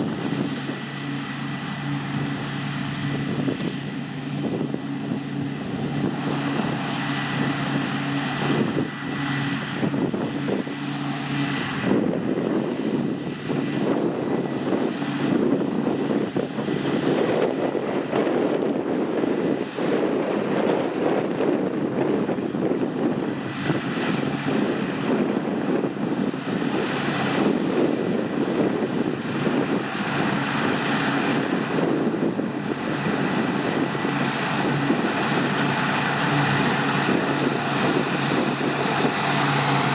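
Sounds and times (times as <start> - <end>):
diesel machinery running: 0.0 - 39.9
steady high whine: 0.0 - 39.9
wind buffeting microphone: 0.0 - 39.9.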